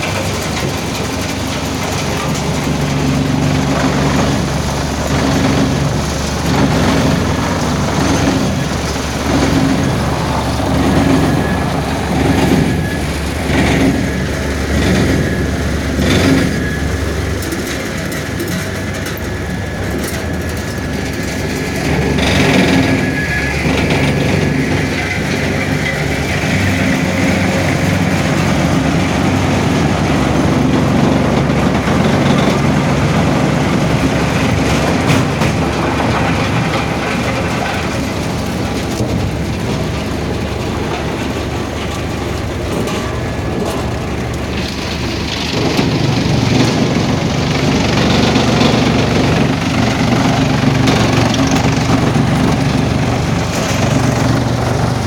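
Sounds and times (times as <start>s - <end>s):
wood chipper humming: 0.0s - 55.0s
wood clicking and crackling: 0.0s - 55.0s.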